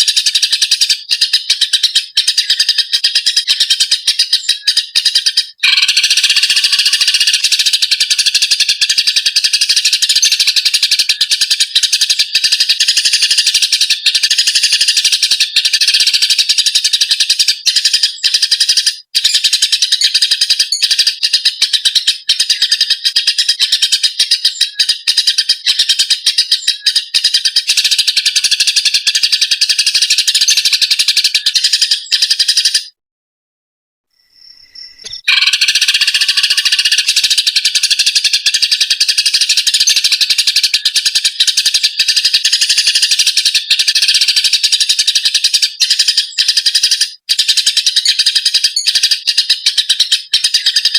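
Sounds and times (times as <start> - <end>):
sparrows chattering: 0.0 - 33.0, 34.2 - 50.9.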